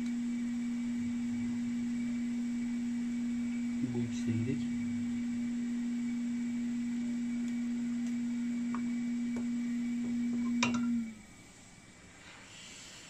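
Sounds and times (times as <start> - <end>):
multimeter steady low beep: 0.0 - 11.0.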